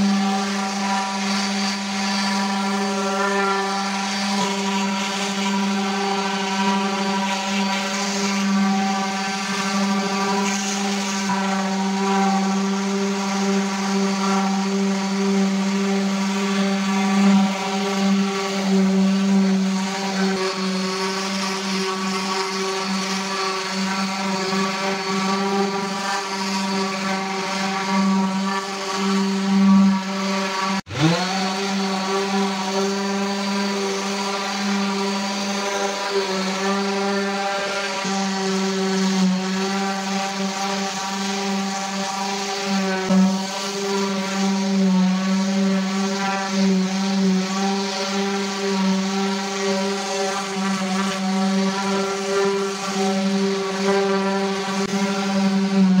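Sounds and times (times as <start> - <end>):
power tool motor running: 0.0 - 56.0.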